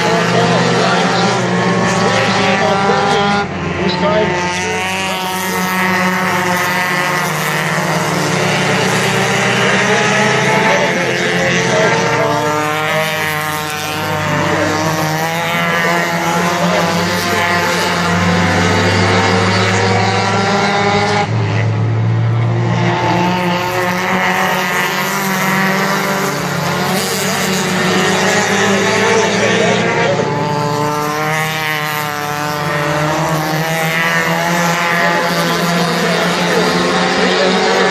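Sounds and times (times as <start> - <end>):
race car engines revving: 0.0 - 37.9.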